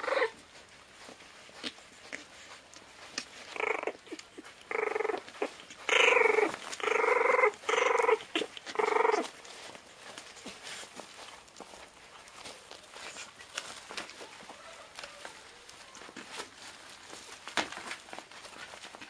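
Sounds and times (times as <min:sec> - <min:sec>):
puppies growling: 0:00.0 - 0:19.0
scuffling clicks: 0:00.4 - 0:19.0.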